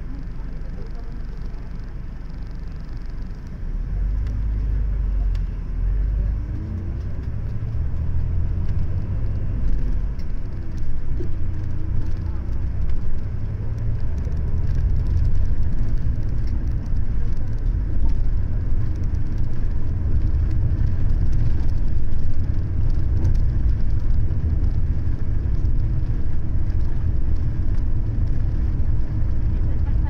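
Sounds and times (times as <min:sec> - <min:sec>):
engine and road rumble: 0:00.0 - 0:30.0.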